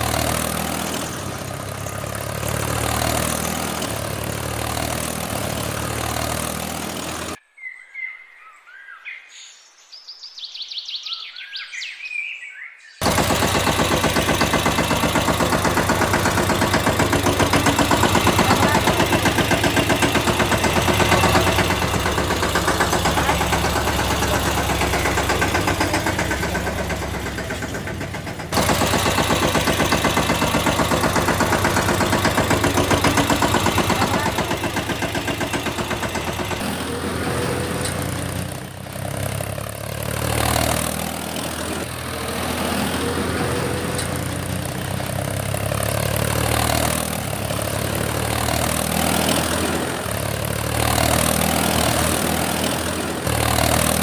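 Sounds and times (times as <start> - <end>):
tractor engine chugging: 0.0 - 7.4, 13.0 - 54.0.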